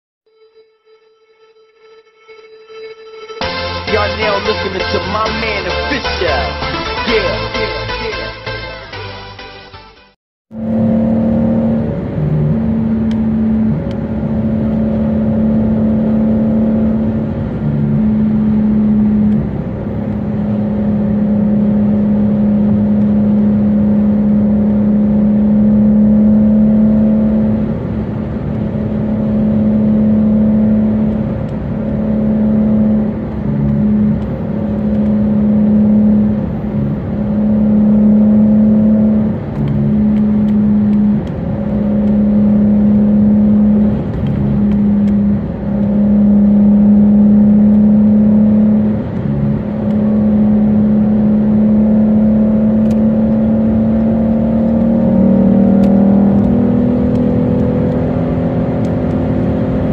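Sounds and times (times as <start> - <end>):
car engine and tyres drone: 0.3 - 9.7, 10.5 - 59.9.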